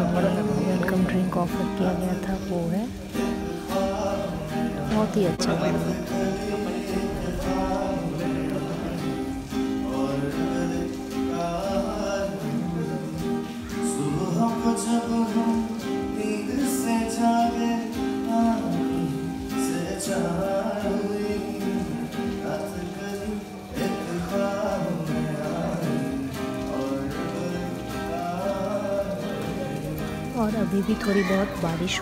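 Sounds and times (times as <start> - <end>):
acoustic guitar: 0.0 - 32.0
man singing: 0.0 - 32.0.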